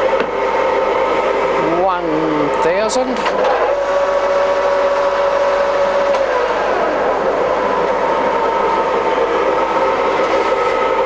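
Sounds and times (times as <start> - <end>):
gear whine: 0.0 - 11.0
lathe humming: 0.0 - 11.0.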